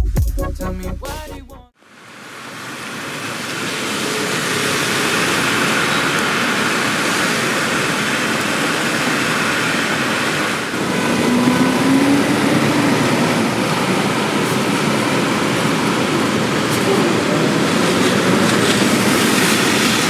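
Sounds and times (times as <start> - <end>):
rain hissing on street: 1.9 - 20.0
traffic: 2.0 - 20.0.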